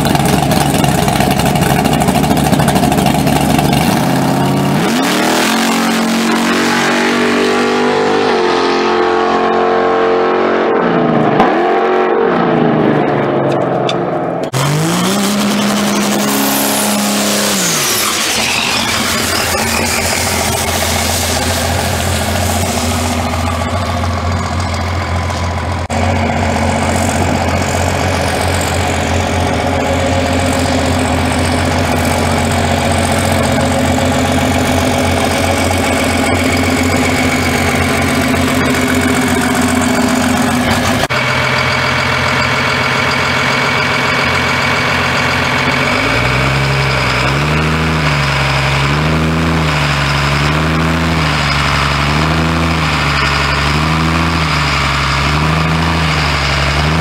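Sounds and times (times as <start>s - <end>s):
diesel engine low drone: 0.0s - 57.0s.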